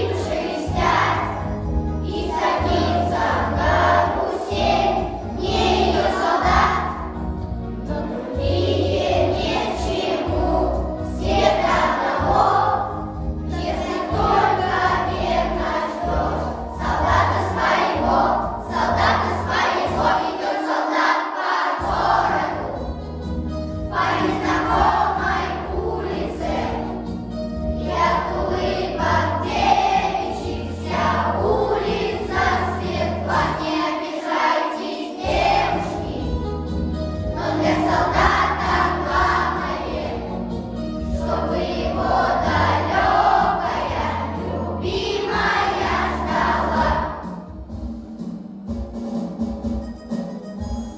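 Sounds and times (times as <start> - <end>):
instrumental accompaniment: 0.0 - 34.5, 35.2 - 50.9
children's choir singing: 0.0 - 48.3.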